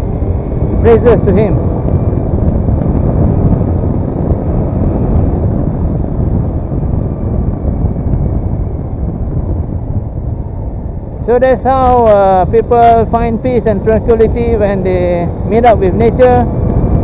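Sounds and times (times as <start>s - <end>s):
scooter engine and road noise: 0.0s - 17.0s
wind rush on microphone: 0.0s - 17.0s.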